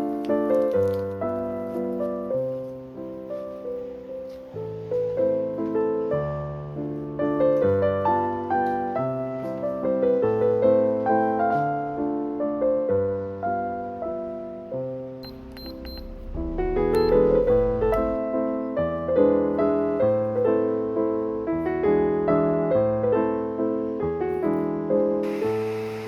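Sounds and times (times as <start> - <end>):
slow solo piano music: 0.0 - 26.0.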